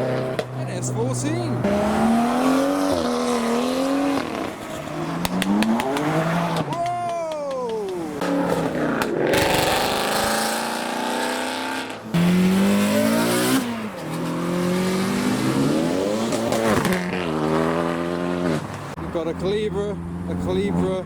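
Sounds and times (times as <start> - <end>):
cars accelerating hard: 0.0 - 21.0
loud car revving: 0.0 - 21.0.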